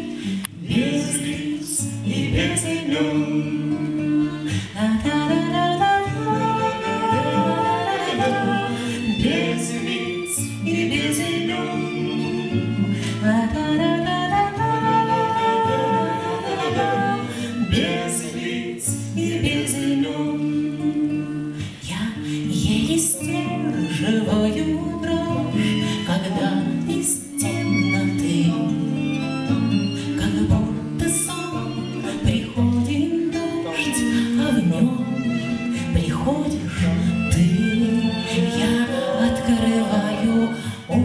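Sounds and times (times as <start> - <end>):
people singing in harmony: 0.0 - 21.3, 22.6 - 28.5, 29.8 - 41.0
acoustic guitar: 0.0 - 41.0
violin playing: 2.3 - 21.4, 22.6 - 41.0.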